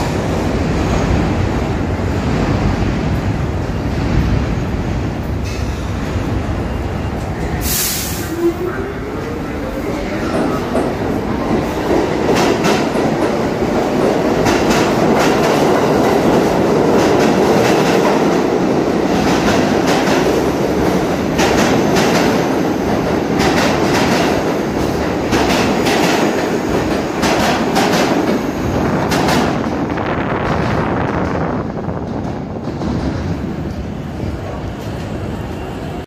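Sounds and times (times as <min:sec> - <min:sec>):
subway train rumbling: 0:00.0 - 0:36.0.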